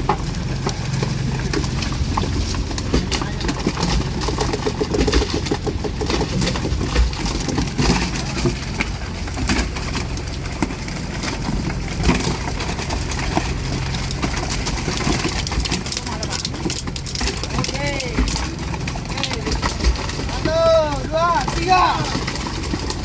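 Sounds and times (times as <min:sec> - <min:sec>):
boat engine idling: 0:00.0 - 0:23.0
knocks and clatter on deck: 0:00.0 - 0:23.0.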